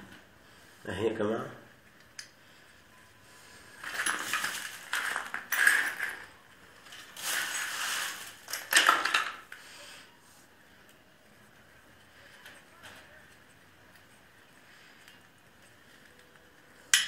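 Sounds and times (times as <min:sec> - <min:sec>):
parts rustling and scraping: 0:03.3 - 0:17.0.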